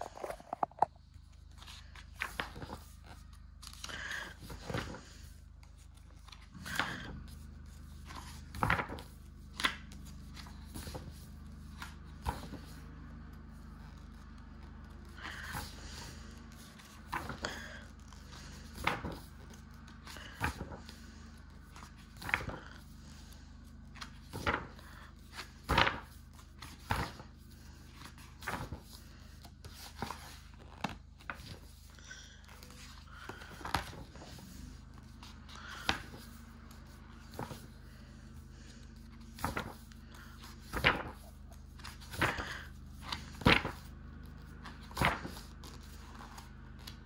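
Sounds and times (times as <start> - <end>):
book pages turning: 0.0 - 47.0
steady low hum: 0.0 - 47.0.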